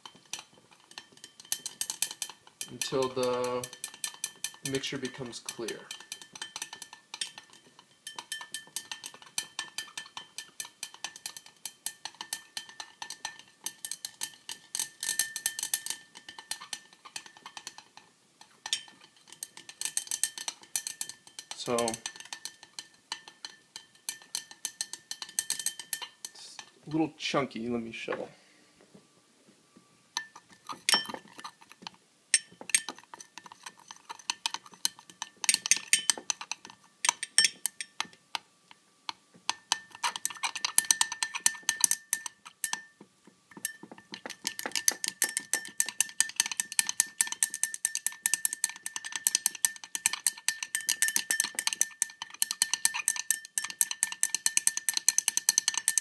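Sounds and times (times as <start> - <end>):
utensil clinking against glass: 0.0 - 17.9, 18.5 - 26.7, 30.2 - 38.2, 39.5 - 56.0.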